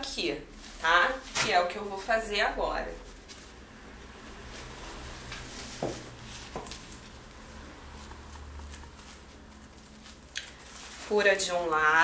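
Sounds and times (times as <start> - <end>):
faint plastic rustling: 0.0 - 12.0.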